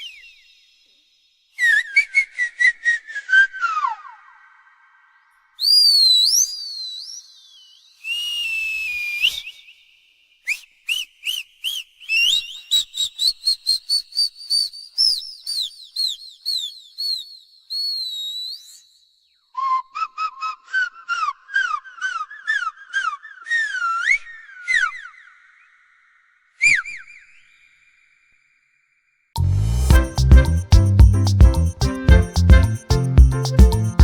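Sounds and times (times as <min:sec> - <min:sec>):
high-pitched whistled chirps: 0:00.0 - 0:02.3, 0:05.6 - 0:28.1, 0:29.6 - 0:34.0.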